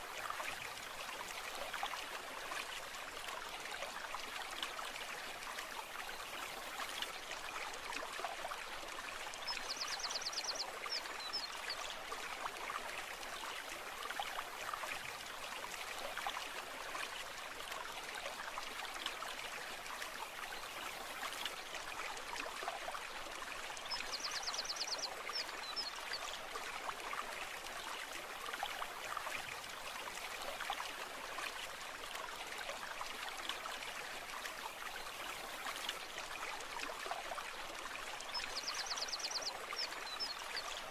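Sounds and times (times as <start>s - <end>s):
brook flowing over stones: 0.0s - 40.9s.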